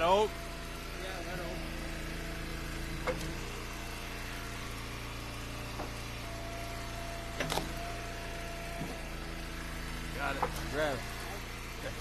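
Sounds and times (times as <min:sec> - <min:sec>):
thin steady whine: 0:00.0 - 0:12.0
wood splitter engine running: 0:00.0 - 0:12.0.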